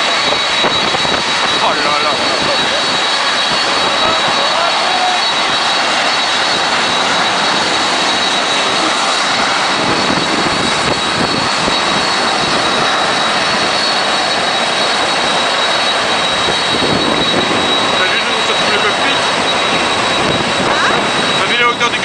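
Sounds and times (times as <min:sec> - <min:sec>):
jet engines running with whine: 0:00.0 - 0:22.0.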